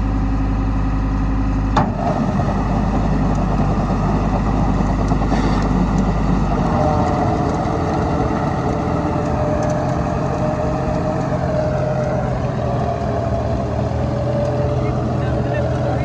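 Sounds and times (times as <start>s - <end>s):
steady whine: 0.0s - 16.0s
tractor diesel engine under load: 0.0s - 16.0s.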